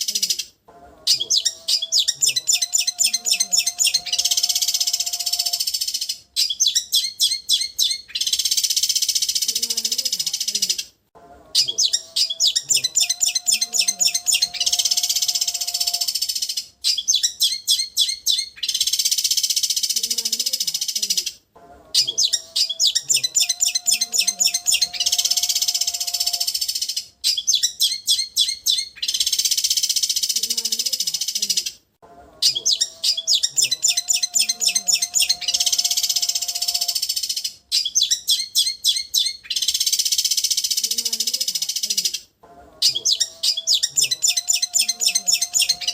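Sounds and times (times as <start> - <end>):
bird high chirps: 0.0 - 10.9, 11.5 - 45.9.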